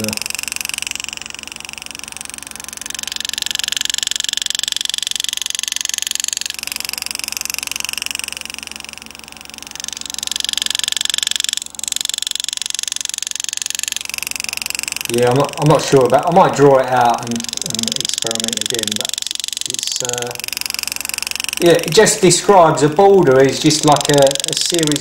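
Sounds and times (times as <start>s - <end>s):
pneumatic engraving tool buzzing: 0.0s - 25.0s.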